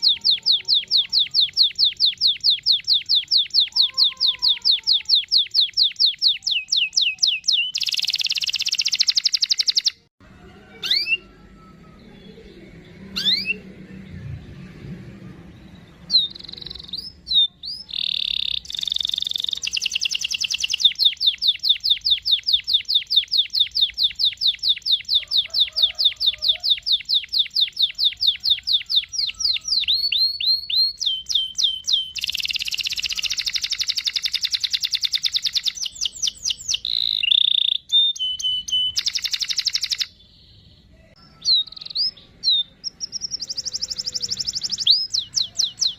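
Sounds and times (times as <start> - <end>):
canary singing trills: 0.0 - 14.2, 15.2 - 45.9.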